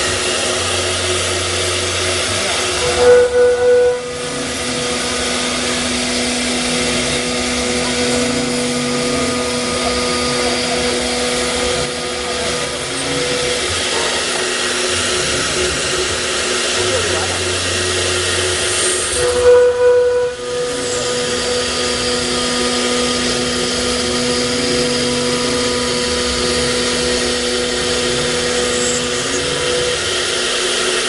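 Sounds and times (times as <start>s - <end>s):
spindle whine: 0.0s - 31.0s.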